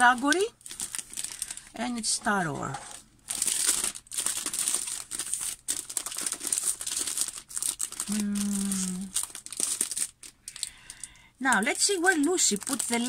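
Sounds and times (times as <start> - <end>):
cellophane crinkling: 0.0 - 13.0.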